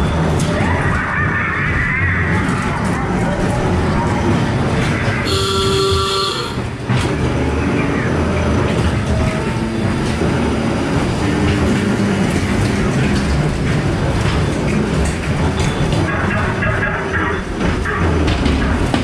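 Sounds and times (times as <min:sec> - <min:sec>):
ride car rumbling on track: 0:00.0 - 0:19.0.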